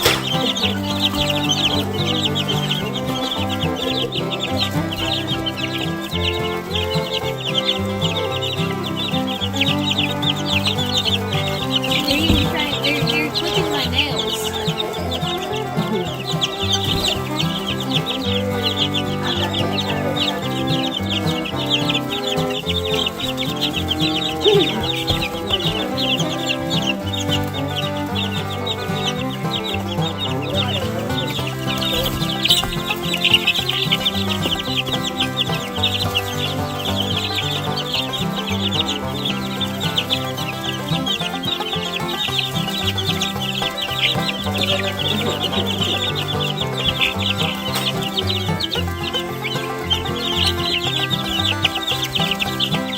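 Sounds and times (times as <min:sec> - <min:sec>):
background music: 0:00.0 - 0:52.9
chicks peeping rapidly: 0:00.0 - 0:52.9.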